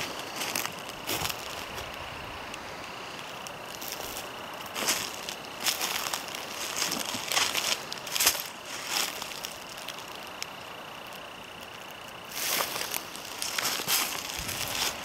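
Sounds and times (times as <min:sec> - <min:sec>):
footsteps crunching dry leaves: 0:00.0 - 0:10.3, 0:12.2 - 0:15.0.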